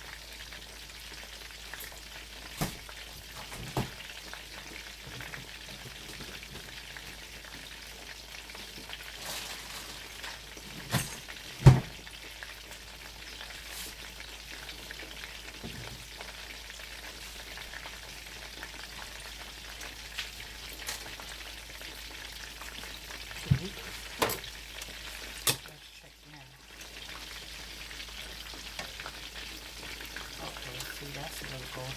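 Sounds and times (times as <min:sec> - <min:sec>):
chicken sizzling in hot oil: 0:00.0 - 0:31.9.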